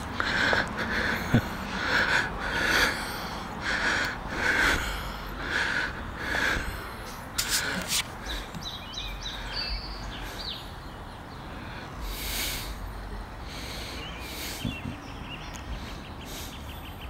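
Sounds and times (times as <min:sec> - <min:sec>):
person breathing hard: 0:00.0 - 0:15.0, 0:15.7 - 0:17.0.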